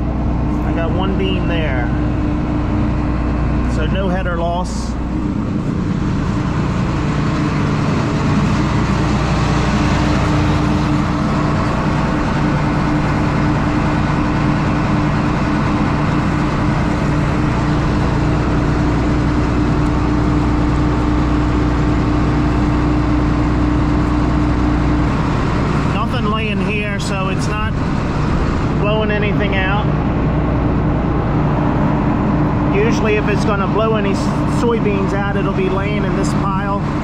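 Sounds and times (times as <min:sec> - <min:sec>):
combine harvester droning: 0:00.0 - 0:37.0
steady hum: 0:00.0 - 0:37.0.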